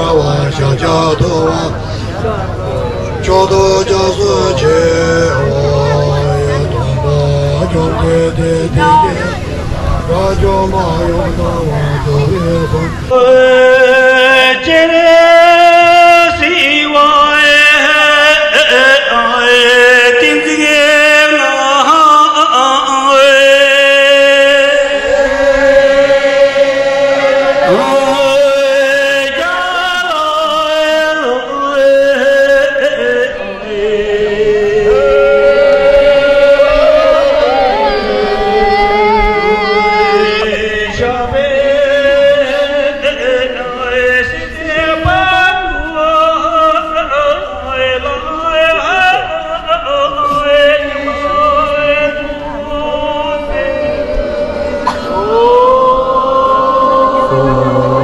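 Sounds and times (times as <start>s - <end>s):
slow chanted singing: 0.0s - 58.0s.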